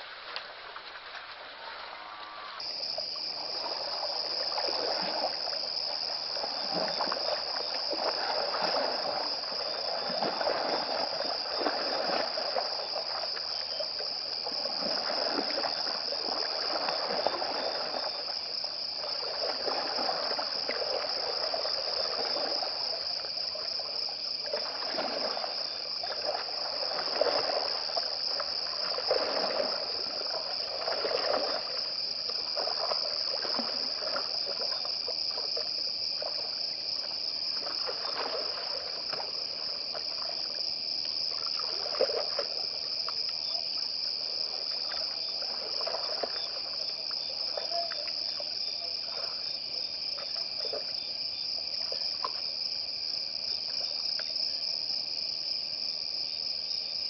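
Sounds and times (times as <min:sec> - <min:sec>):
water sloshing and splashing: 0:00.0 - 0:56.8
crickets chirping: 0:00.0 - 0:57.0.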